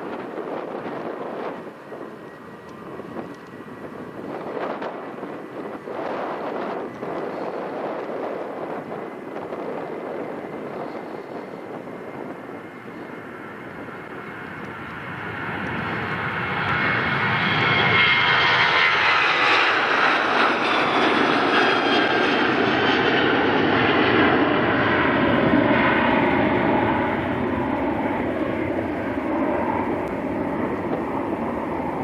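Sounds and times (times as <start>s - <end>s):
jet airliner engine roar: 0.0s - 32.0s
jet engine whine: 0.0s - 32.0s.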